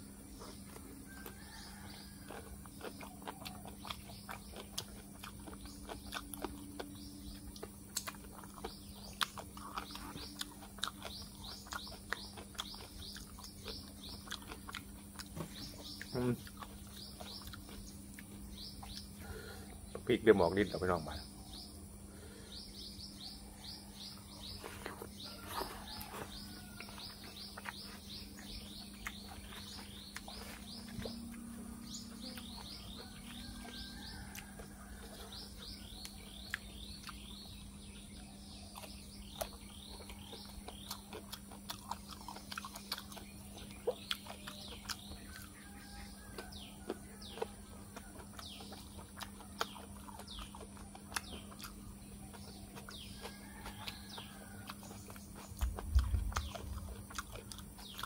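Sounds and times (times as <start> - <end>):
birds chirping: 0.0 - 58.0
eating with fingers: 0.3 - 58.0.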